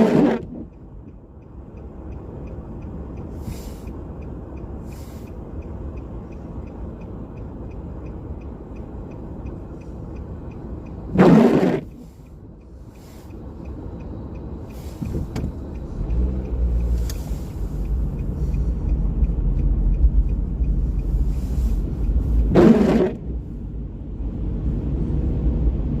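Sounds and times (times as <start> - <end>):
car rumbling on rainy streets: 0.0 - 26.0.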